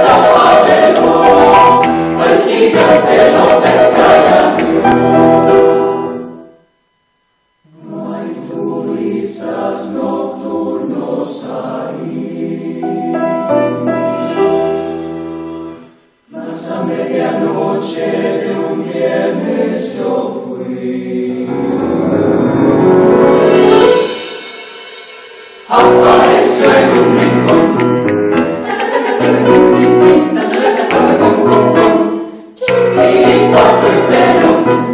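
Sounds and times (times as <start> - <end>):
choir singing with music: 0.0 - 6.6, 7.7 - 34.9.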